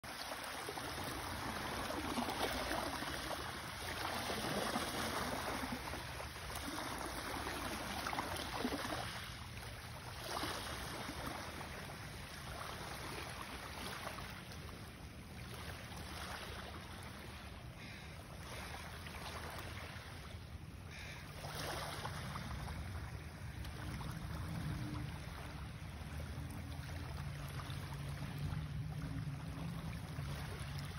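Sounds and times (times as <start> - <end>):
low steady hum: 0.1 - 30.9
waves lapping on pebble beach: 0.1 - 30.9.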